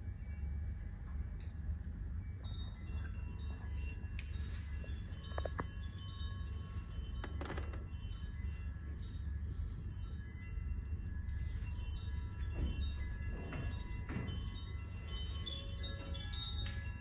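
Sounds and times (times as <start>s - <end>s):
steady low hum: 0.0s - 17.0s
wind chimes ringing: 0.0s - 17.0s.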